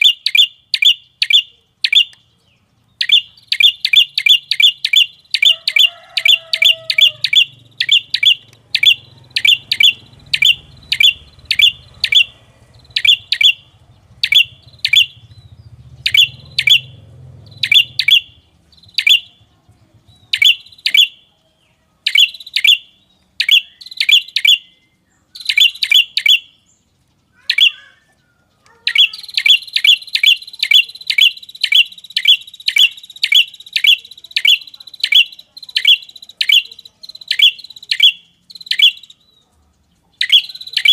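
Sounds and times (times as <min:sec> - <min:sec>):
sharp high bird chirps: 0:00.0 - 0:40.9.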